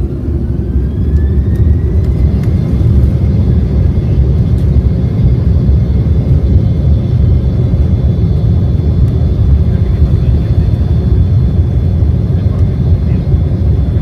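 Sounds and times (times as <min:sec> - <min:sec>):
heavy engine rumble: 0:00.0 - 0:14.0
jet engine whine: 0:00.0 - 0:14.0.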